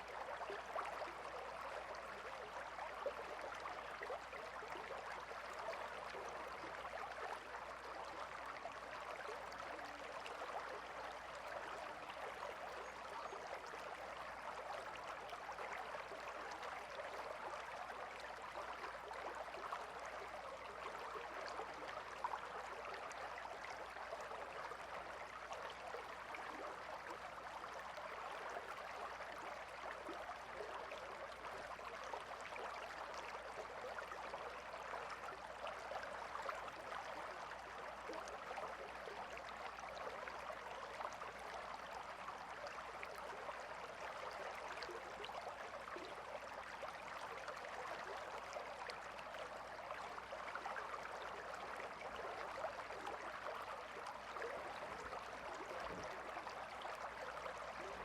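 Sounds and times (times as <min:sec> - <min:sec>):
river water flowing: 0:00.1 - 0:58.0.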